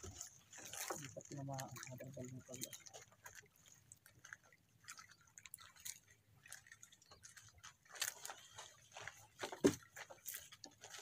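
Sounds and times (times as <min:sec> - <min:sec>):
fishing net clicks and ticks: 0:00.0 - 0:11.0
water dripping: 0:00.0 - 0:11.0.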